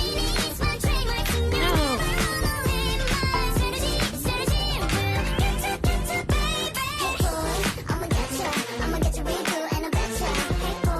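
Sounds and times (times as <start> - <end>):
person singing: 0.0 - 10.9
pop music with beat: 0.0 - 10.9.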